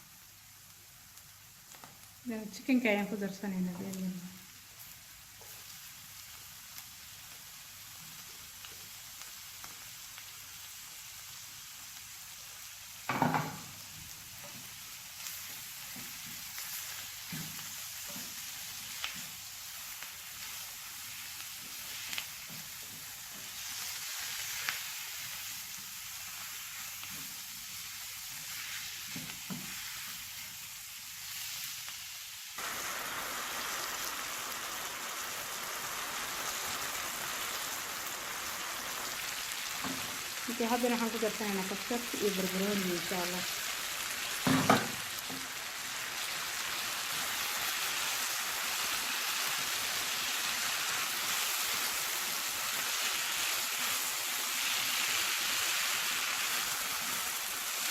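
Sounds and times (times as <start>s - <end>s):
food sizzling in a pan: 0.0s - 57.9s.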